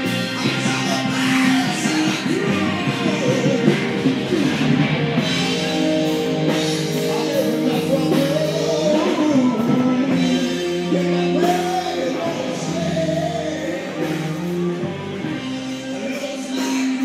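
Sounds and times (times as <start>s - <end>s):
rock song with singer and guitar: 0.0s - 17.0s.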